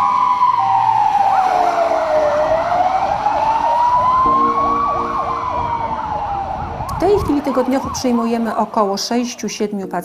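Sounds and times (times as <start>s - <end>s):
yelping siren: 0.0s - 8.8s
wailing siren: 0.0s - 9.4s.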